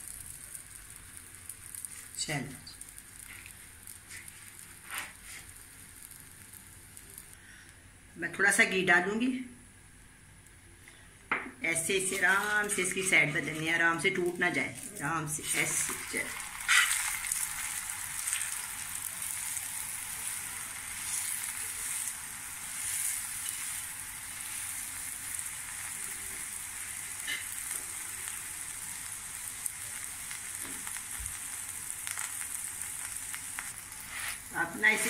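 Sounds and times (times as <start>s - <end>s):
ghee sizzling in a pan: 0.0s - 7.7s, 9.7s - 35.0s.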